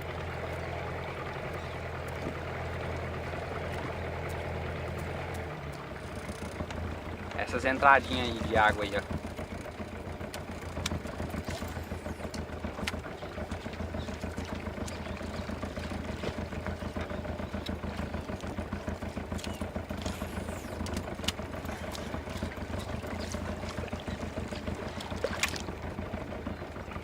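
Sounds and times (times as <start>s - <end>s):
outboard motor humming: 0.0s - 27.0s.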